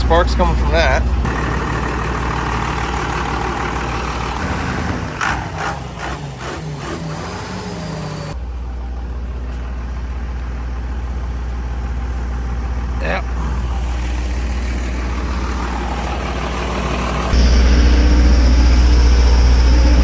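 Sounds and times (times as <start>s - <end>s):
diesel truck engine idling: 0.0s - 17.4s.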